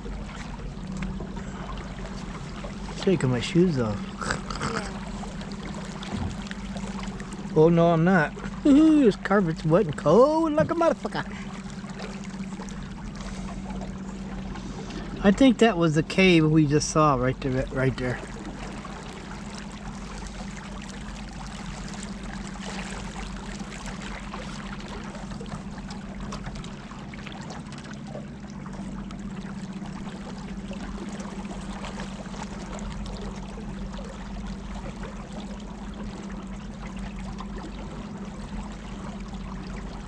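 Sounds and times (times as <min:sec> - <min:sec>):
motorboat engine hum: 0:00.0 - 0:40.0
water splashing along hull: 0:00.0 - 0:40.0.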